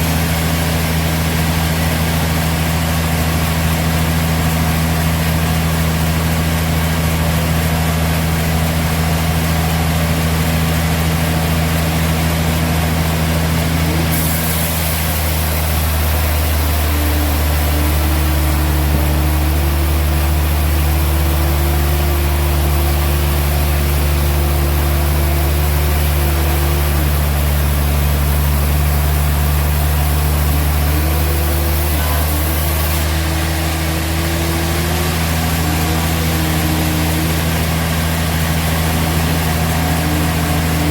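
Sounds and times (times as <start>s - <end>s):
high steady machine tone: 0.0s - 40.9s
sawmill engine drone: 0.0s - 40.9s.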